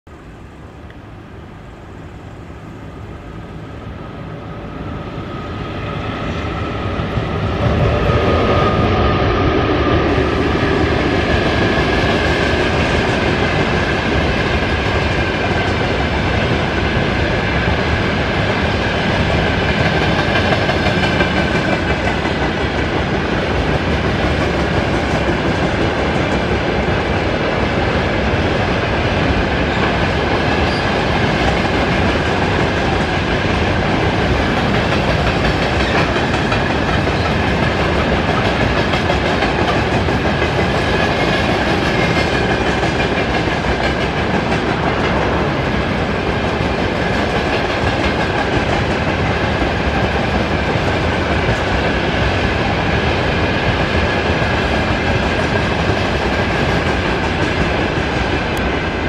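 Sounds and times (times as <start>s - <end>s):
freight train rumbling past: 0.1s - 59.0s.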